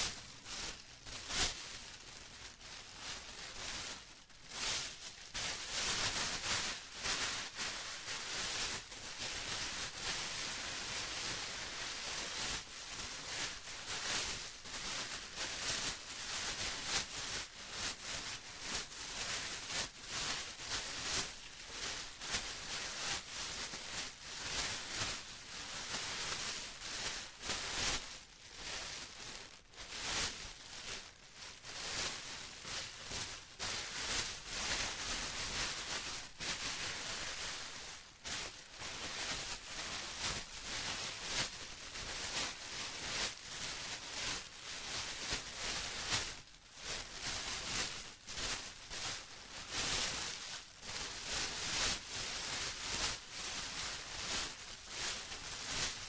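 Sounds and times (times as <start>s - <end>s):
plastic crinkling: 0.0s - 14.2s, 18.6s - 56.0s.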